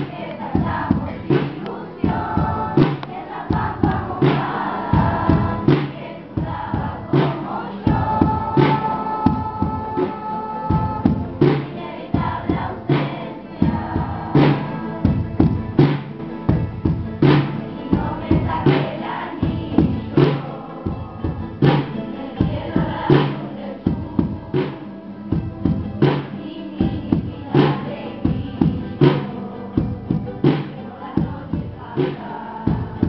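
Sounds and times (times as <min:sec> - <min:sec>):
children's choir singing: 0:00.0 - 0:33.0
strummed acoustic guitars: 0:00.0 - 0:33.0.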